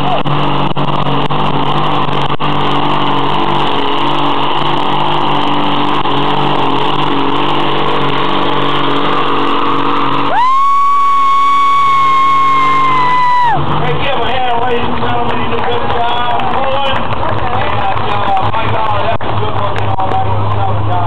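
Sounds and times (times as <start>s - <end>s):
pickup engine under load: 0.0s - 21.0s.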